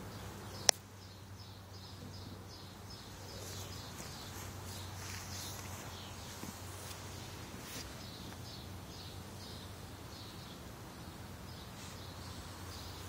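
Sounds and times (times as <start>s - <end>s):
low steady hum: 0.0s - 13.0s
small bird chirping: 0.0s - 13.0s.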